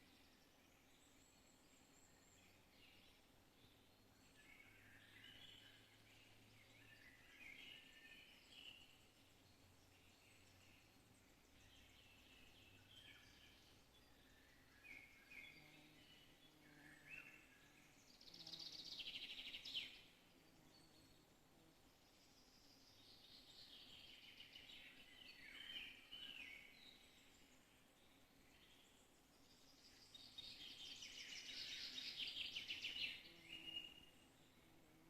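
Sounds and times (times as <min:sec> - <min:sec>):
bird chirping: 0:00.0 - 0:21.4, 0:22.0 - 0:35.0.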